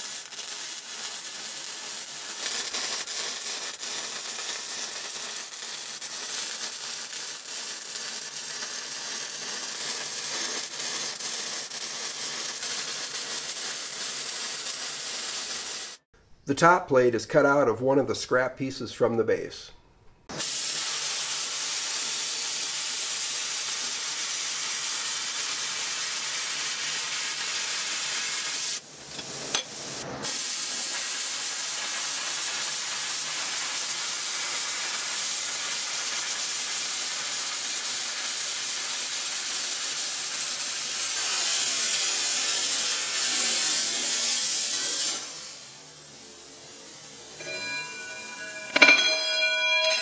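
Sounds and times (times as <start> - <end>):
plasma cutter hissing: 0.0 - 16.0, 20.4 - 48.7.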